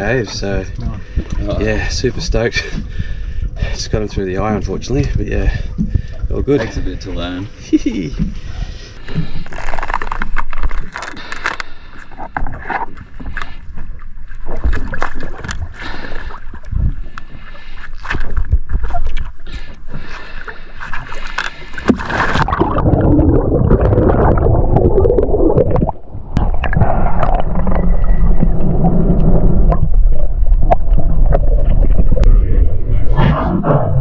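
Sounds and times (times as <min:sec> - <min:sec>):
underwater rush with bubbling: 0:00.0 - 0:34.0.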